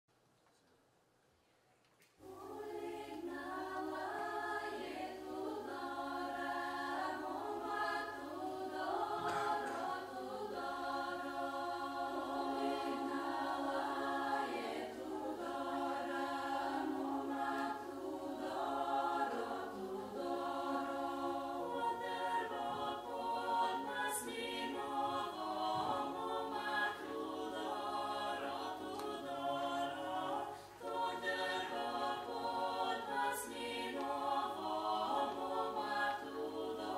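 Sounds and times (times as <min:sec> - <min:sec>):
unaccompanied choir singing: 0:02.2 - 0:36.9.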